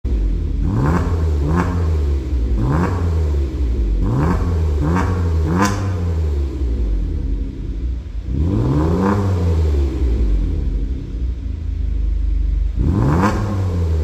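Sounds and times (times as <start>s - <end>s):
car exhaust revving: 0.0s - 14.0s.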